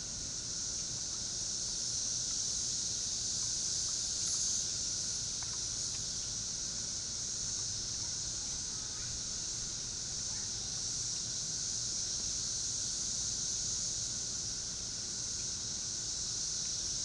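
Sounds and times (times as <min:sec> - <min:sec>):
cicada buzz: 0:00.0 - 0:17.0
lower cicada song: 0:00.0 - 0:17.0.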